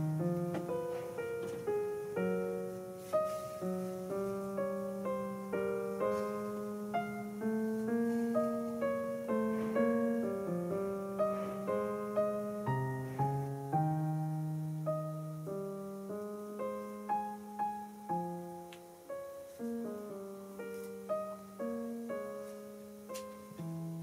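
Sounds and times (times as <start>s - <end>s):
slow gentle piano melody: 0.0s - 24.0s.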